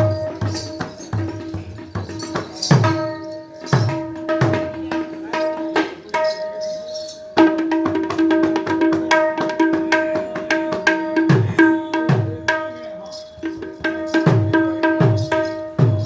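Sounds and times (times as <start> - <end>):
barrel drum played in quick rhythm: 0.0 - 6.7, 7.4 - 12.8, 13.4 - 16.0.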